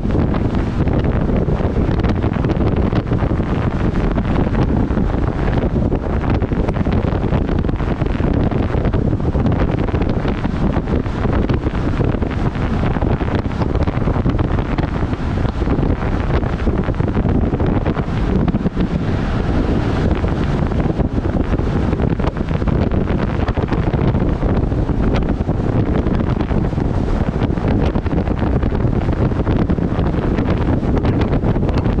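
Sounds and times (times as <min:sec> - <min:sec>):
road noise: 0:00.0 - 0:32.0
wind buffeting microphone: 0:00.0 - 0:32.0.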